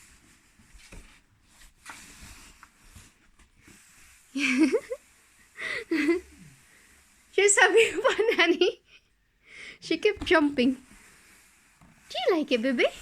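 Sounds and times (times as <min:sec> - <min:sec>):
cardboard box dragged on floor: 0:00.0 - 0:08.4, 0:10.0 - 0:13.0.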